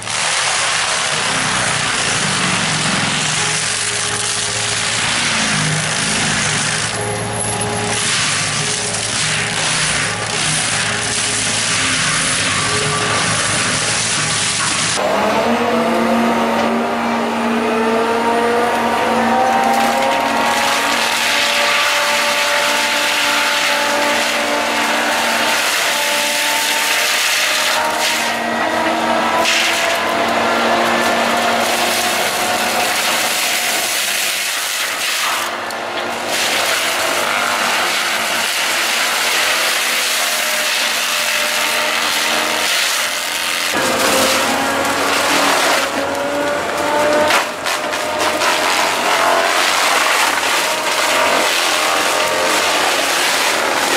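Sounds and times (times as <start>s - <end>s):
excavator engine and hydraulics: 0.0s - 53.9s
wood rubbing and grinding: 0.0s - 53.9s.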